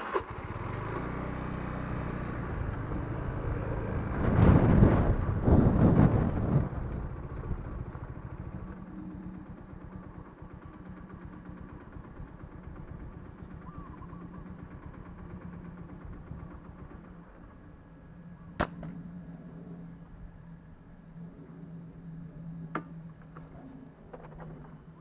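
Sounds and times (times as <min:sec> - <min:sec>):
small engine idling: 0:00.0 - 0:04.1, 0:05.2 - 0:25.0.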